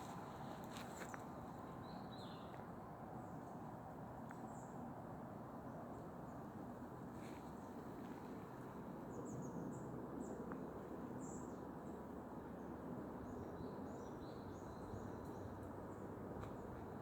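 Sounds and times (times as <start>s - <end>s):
low outdoor background rush: 0.0s - 17.0s.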